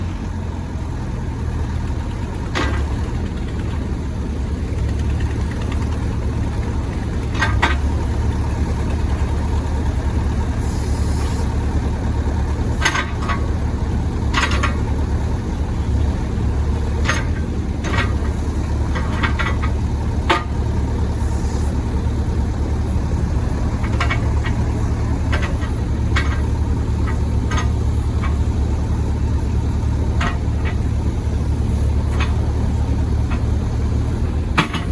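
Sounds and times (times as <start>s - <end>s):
excavator diesel engine droning: 0.0s - 34.9s.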